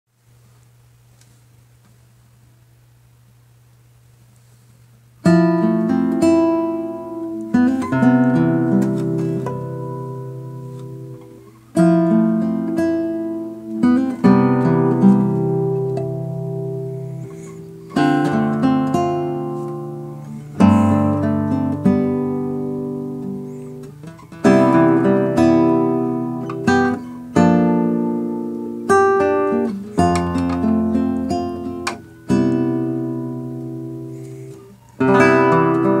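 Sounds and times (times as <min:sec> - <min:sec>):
classical guitar fingerstyle: 0:05.2 - 0:36.0.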